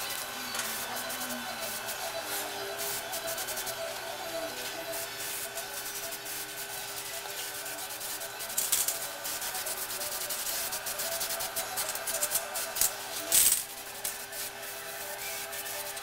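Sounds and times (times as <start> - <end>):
faint steady tones: 0.0 - 16.0.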